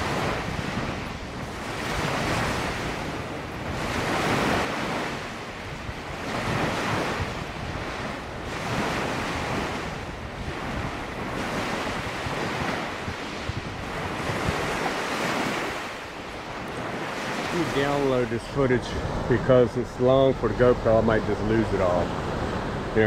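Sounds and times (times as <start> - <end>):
small surf breaking on beach: 0.0 - 23.0
wind buffeting microphone: 0.0 - 23.0.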